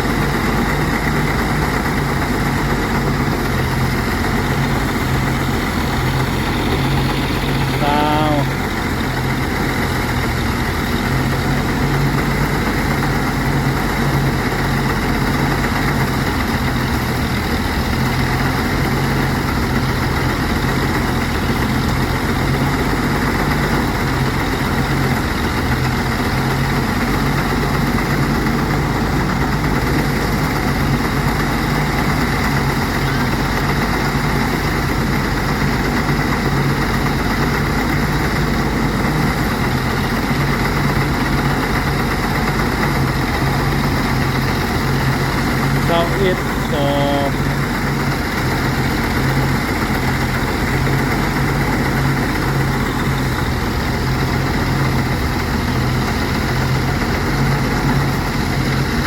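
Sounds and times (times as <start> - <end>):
rice threshing machine running: 0.0 - 59.0.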